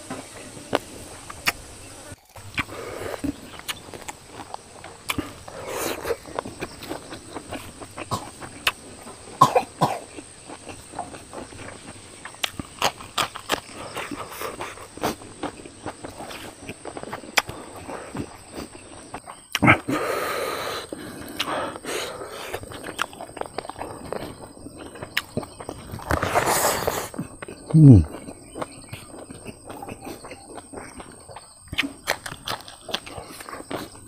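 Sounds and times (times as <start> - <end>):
man chewing and lip smacking: 0.6 - 1.6, 2.2 - 9.4, 10.1 - 20.1, 20.9 - 34.0.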